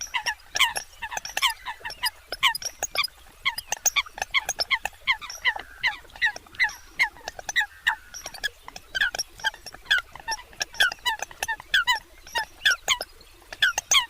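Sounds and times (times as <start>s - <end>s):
coots calling: 0.0s - 14.0s.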